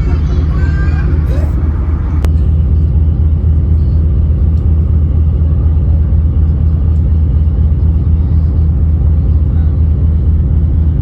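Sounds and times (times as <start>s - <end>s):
ship engines rumbling: 0.0s - 11.0s.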